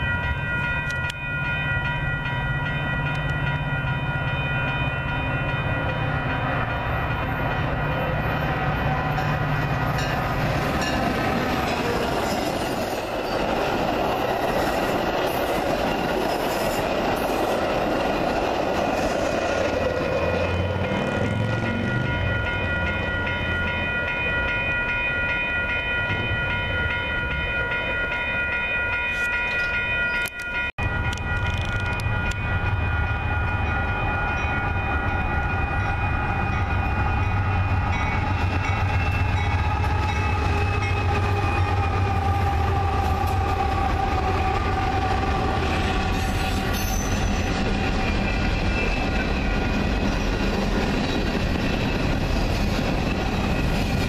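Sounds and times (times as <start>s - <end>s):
diesel locomotive engine rumble: 0.0s - 24.7s, 30.2s - 54.0s
crossing warning bells ringing: 0.0s - 54.0s
passing train rumble: 0.0s - 54.0s.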